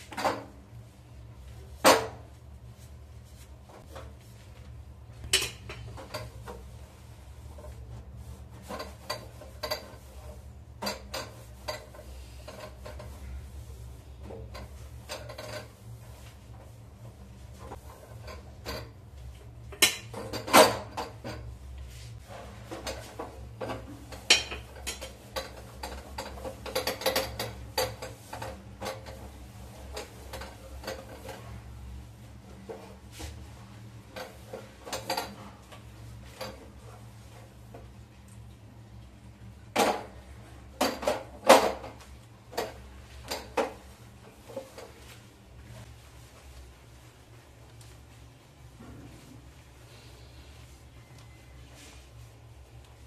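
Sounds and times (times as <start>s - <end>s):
cloth wiping metal stove top: 0.0s - 38.1s, 40.0s - 53.0s.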